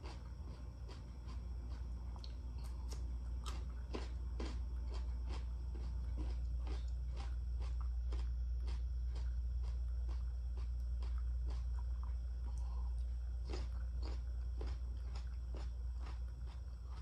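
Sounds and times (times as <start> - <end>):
crisp crunching chewing: 0.0 - 17.0
steady low hum: 0.0 - 17.0.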